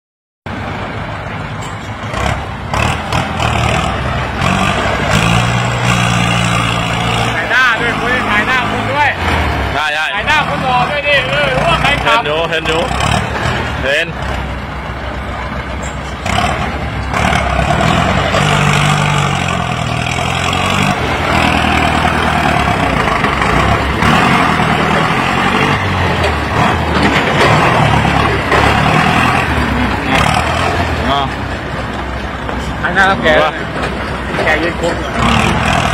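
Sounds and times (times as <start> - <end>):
tractor diesel engine under load: 0.5 - 35.9.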